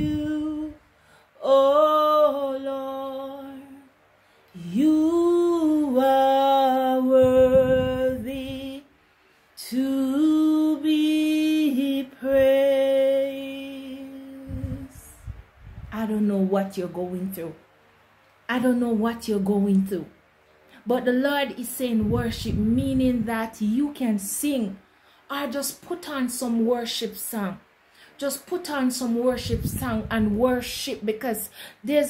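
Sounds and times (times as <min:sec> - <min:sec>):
woman singing unaccompanied: 0:00.0 - 0:03.9, 0:04.6 - 0:08.9, 0:09.6 - 0:17.6, 0:20.8 - 0:27.6, 0:28.2 - 0:32.0.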